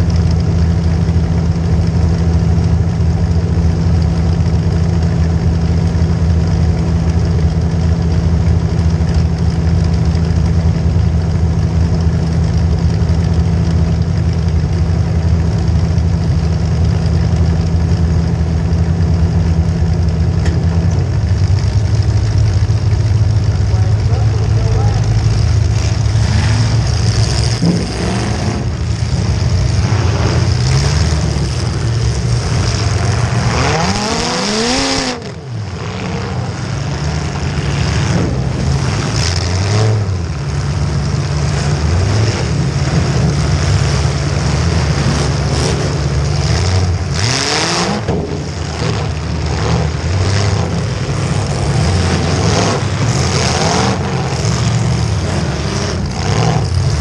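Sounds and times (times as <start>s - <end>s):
car engine revving: 0.0s - 57.0s
other car engines: 0.0s - 57.0s.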